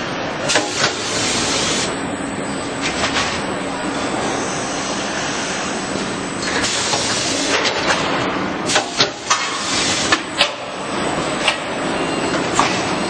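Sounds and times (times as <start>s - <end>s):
machine running hum: 0.0s - 13.0s.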